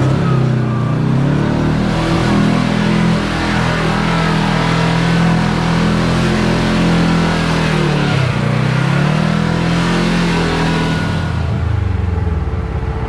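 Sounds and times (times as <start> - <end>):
utility vehicle engine revving: 0.0 - 13.0.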